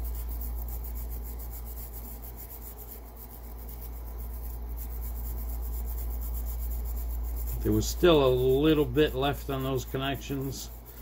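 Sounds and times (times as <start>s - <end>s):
small brush scrubbing metal: 0.0s - 11.0s
steady low hum: 0.0s - 11.0s.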